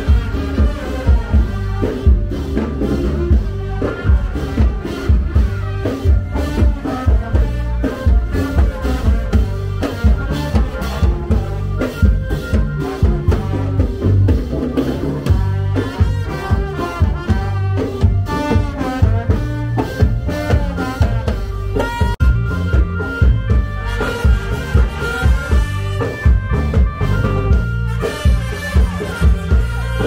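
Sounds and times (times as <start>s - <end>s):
drum kit beat: 0.0s - 30.0s
trumpets playing: 0.0s - 30.0s.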